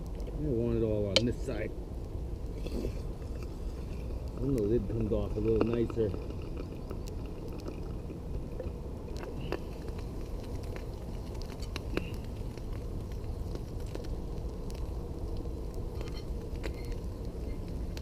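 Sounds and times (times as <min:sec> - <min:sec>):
campfire crackling: 0:00.0 - 0:18.0
ham sizzling in butter: 0:02.4 - 0:18.0.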